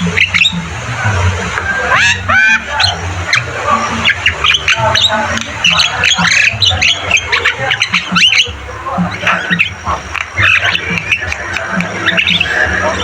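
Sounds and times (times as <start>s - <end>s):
mynas squawking and chattering: 0.0s - 13.0s.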